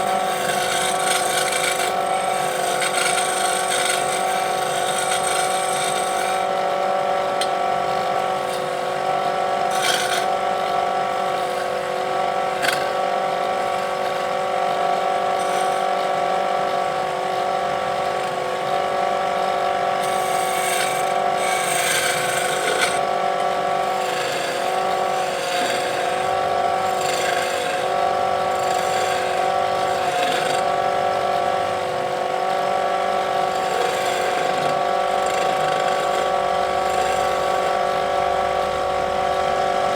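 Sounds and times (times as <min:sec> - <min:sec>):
lathe motor whine: 0:00.0 - 0:39.9
tool scraping spinning wood: 0:00.0 - 0:39.9.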